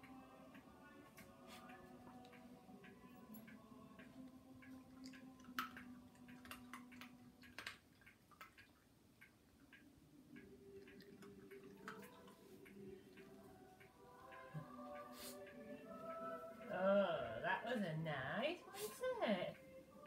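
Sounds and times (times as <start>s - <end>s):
small clicks and ticks: 0.0s - 20.0s.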